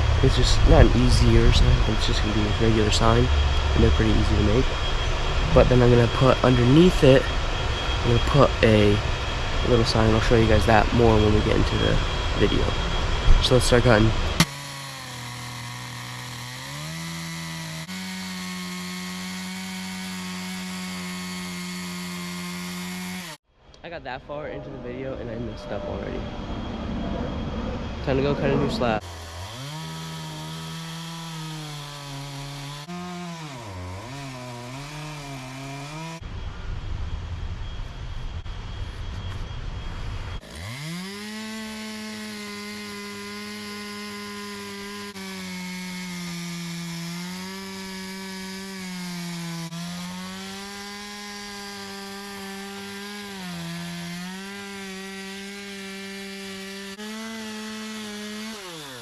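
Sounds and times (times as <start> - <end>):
chainsaw cutting wood: 0.0 - 23.4, 29.0 - 36.2, 40.4 - 59.0.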